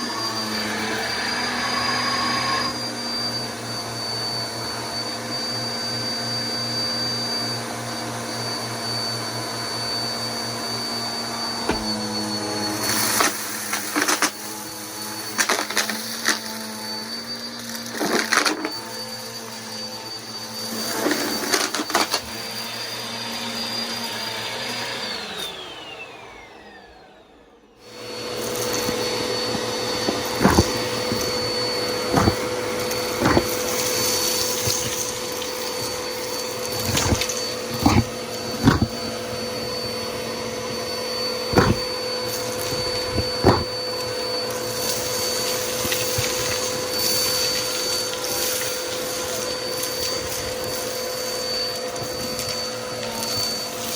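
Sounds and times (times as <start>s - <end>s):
vacuum cleaner whining: 0.0s - 53.9s.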